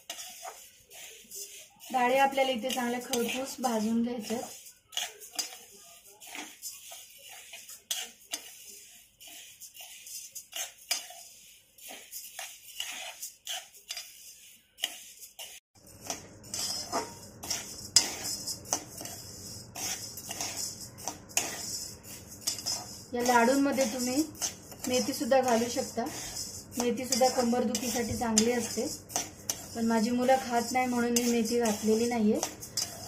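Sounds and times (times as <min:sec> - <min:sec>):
spatula scraping a pan: 0:00.0 - 0:33.0.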